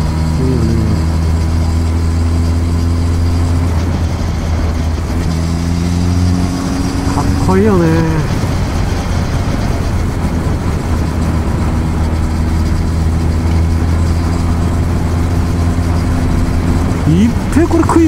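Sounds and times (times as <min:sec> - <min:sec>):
motorcycle engine steady drone: 0:00.0 - 0:18.0.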